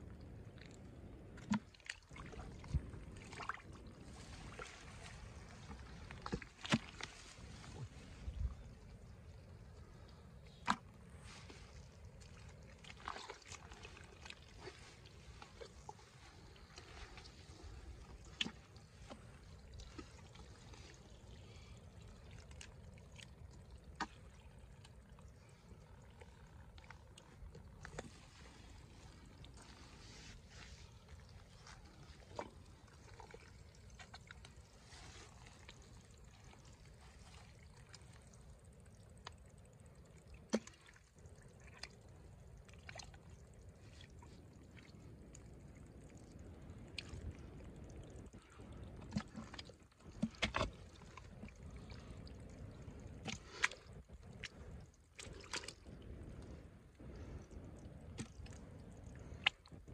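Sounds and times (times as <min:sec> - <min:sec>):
mud squelching and trickling: 0:00.0 - 0:59.9.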